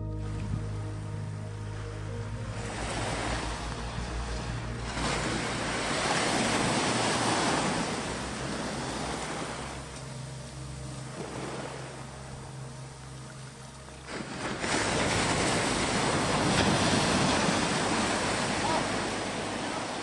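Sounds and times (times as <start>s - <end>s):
sea waves washing: 0.0s - 20.0s
steady low hum: 0.0s - 20.0s.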